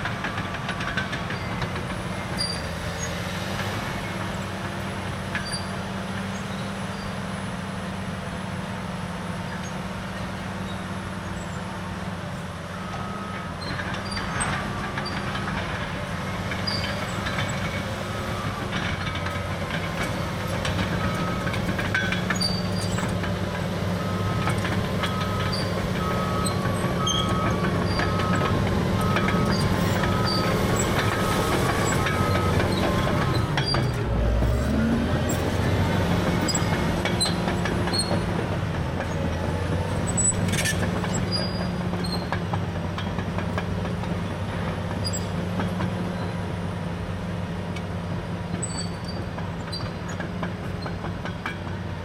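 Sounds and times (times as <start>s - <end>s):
bulldozer diesel engine running: 0.0s - 52.0s
tracks clanking and knocking: 0.0s - 52.0s.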